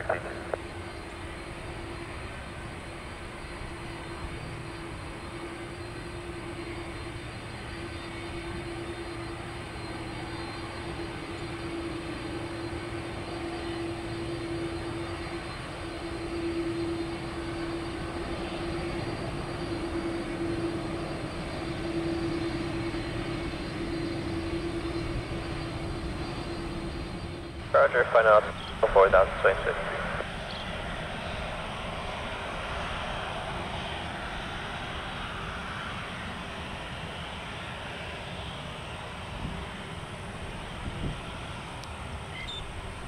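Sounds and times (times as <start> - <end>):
constant humming tone: 0.0 - 43.0
jet engines running: 0.0 - 43.0.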